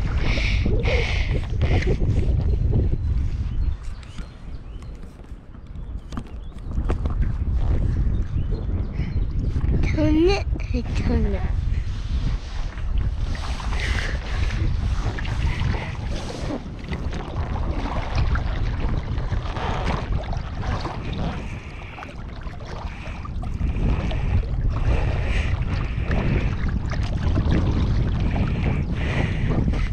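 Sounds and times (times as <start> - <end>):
water splashing around kayak: 0.0 - 8.5, 11.5 - 29.9
wind rumbling on microphone: 0.0 - 29.9.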